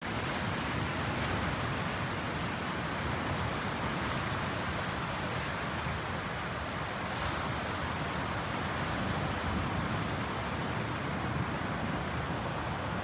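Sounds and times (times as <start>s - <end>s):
ocean surf washing onto beach: 0.1s - 13.0s.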